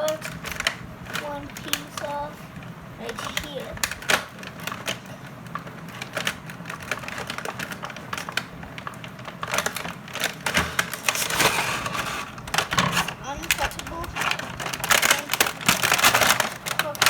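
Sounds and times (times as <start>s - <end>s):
packaging crinkling: 3.1s - 17.0s.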